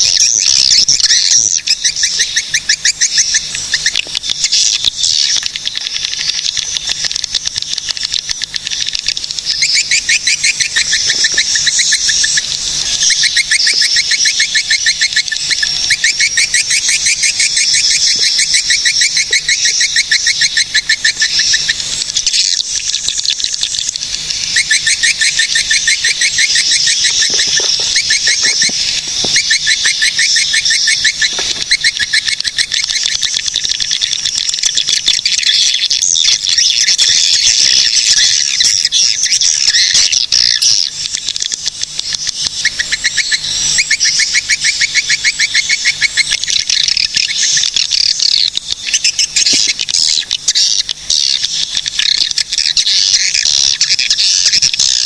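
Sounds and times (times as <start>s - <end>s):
swiftlets chattering trills: 0.0s - 55.0s.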